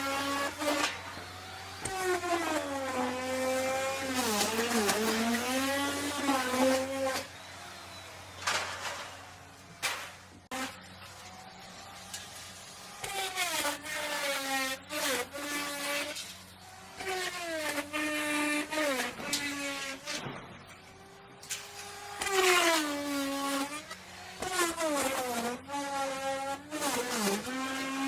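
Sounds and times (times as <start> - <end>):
wood router motor whine: 0.0 - 28.0.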